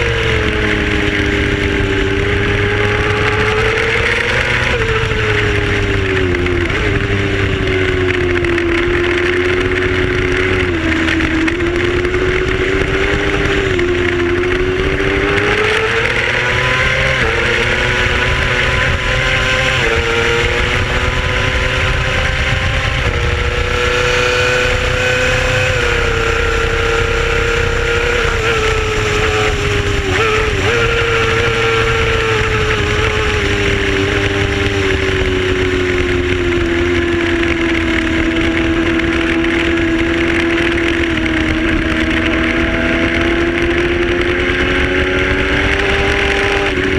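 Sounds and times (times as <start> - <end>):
motorcycle engine running: 0.0 - 46.9
steady rushing noise: 0.0 - 46.9.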